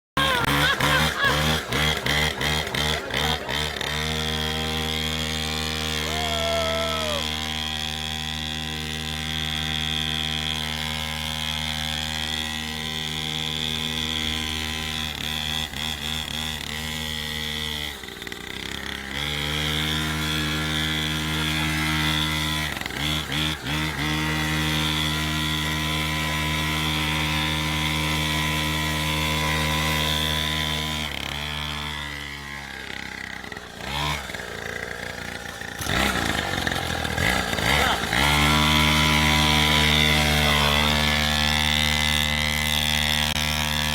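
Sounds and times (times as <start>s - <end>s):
small two-stroke engine idling: 0.2s - 43.9s.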